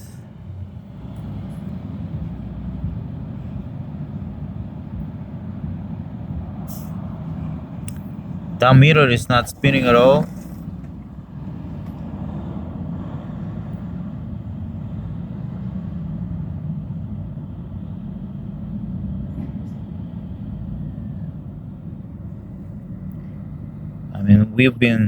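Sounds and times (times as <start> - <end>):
low rumble of outdoor background: 0.0 - 25.0.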